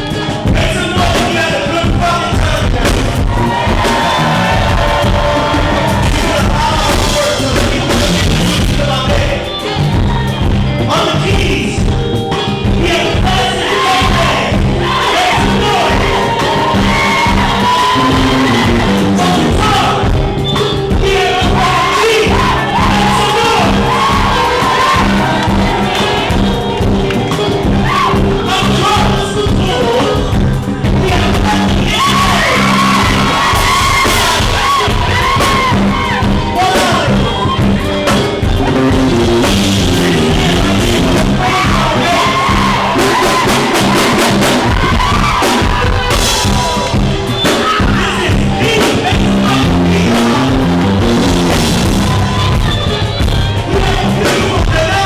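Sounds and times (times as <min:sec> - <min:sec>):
live band playing loudly: 0:00.0 - 0:55.0
person singing and shouting: 0:00.0 - 0:55.0.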